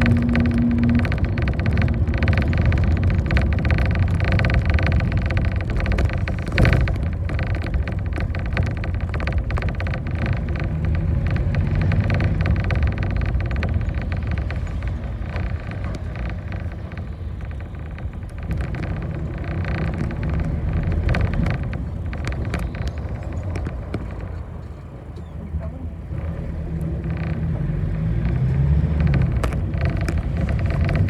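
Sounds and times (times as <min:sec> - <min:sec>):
bus body rattling: 0:00.0 - 0:31.0
bus engine and road rumble: 0:00.0 - 0:31.0.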